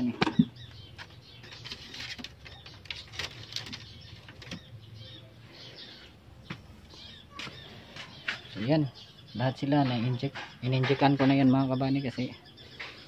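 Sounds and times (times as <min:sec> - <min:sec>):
faint birds calling: 0:00.0 - 0:13.0.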